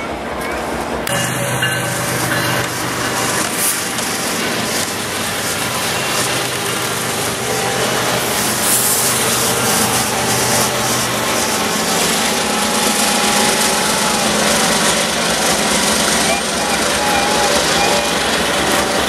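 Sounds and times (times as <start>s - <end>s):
locomotive engine running: 0.0s - 19.0s
train wheels on rails: 0.0s - 19.0s.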